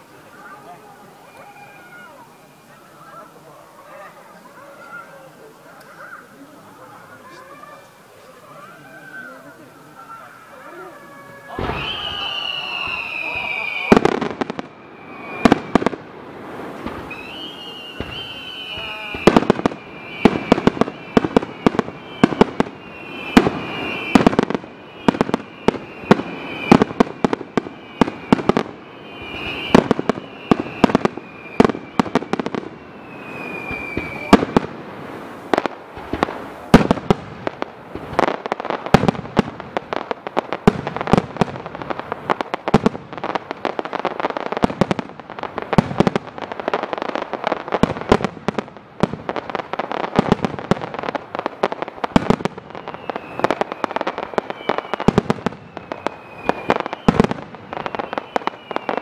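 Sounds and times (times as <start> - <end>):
fireworks bangs and crackles: 0.0 - 59.0
whistling fireworks: 0.0 - 59.0.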